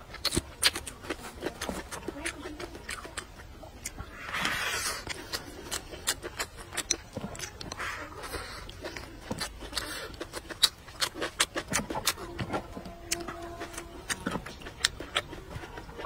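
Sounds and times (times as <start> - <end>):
wet chewing and lip smacking: 0.0 - 16.0.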